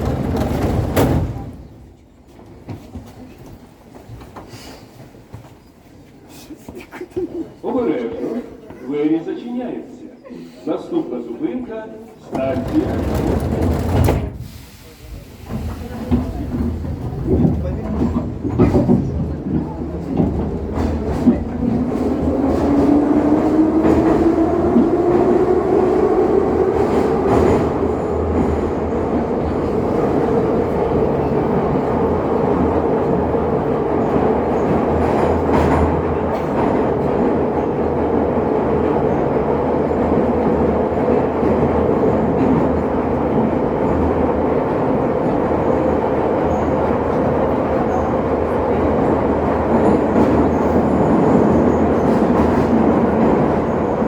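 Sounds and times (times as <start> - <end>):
wheels rumbling on rail: 0.0 - 4.1, 12.3 - 54.0.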